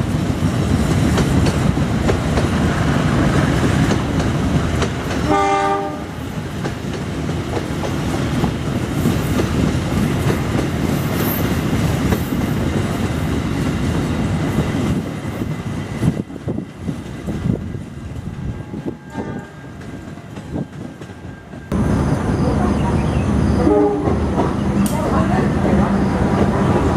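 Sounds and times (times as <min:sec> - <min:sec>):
clickety-clack over rail joints: 0:00.0 - 0:21.8, 0:23.9 - 0:26.9
train wheels rumbling on rails: 0:00.0 - 0:26.9.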